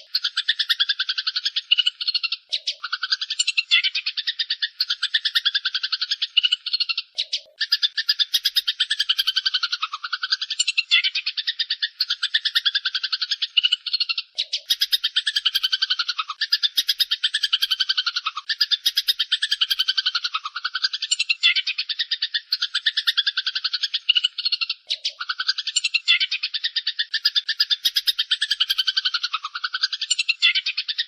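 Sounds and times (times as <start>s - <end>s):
sparrows chattering harshly: 0.0s - 31.0s.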